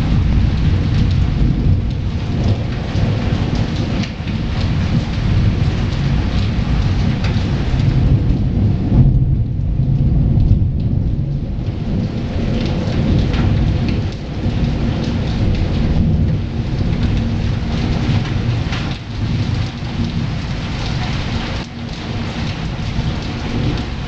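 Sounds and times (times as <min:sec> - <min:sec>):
heavy rain falling: 0:00.0 - 0:24.0
rolling thunder rumble: 0:00.0 - 0:24.0.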